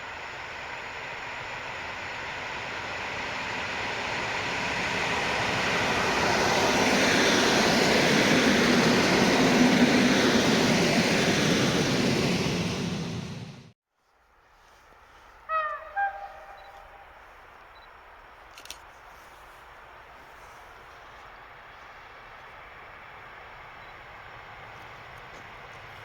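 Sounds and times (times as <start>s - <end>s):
train wheels on rails: 0.0s - 13.8s, 14.6s - 26.0s.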